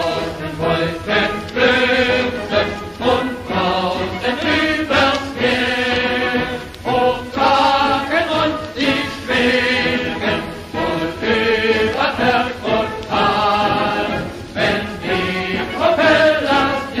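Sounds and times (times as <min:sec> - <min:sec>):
choir singing chant-like melody: 0:00.0 - 0:17.0.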